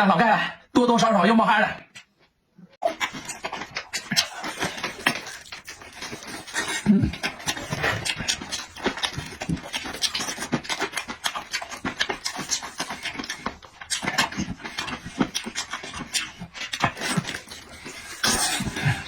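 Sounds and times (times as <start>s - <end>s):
wet chewing and lip-smacking: 2.8s - 19.0s.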